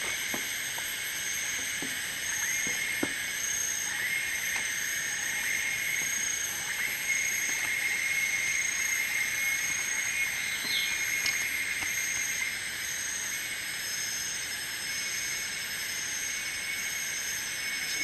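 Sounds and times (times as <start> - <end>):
insect drone: 0.0 - 18.0
pulsing high insect tone: 0.0 - 18.0.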